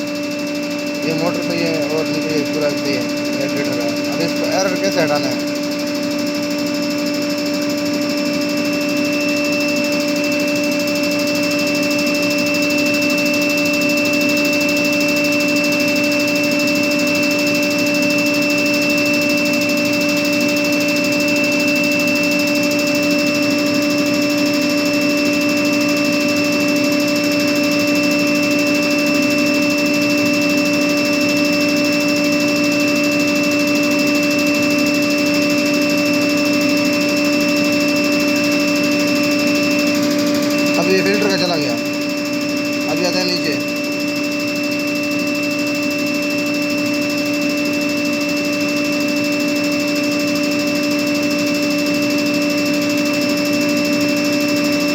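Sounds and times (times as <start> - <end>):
air compressor drone with whine: 0.0 - 54.9.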